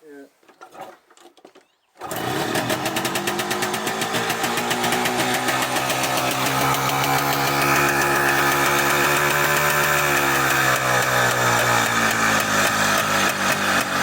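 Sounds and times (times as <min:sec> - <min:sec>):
two-stroke engine running: 0:02.0 - 0:14.0.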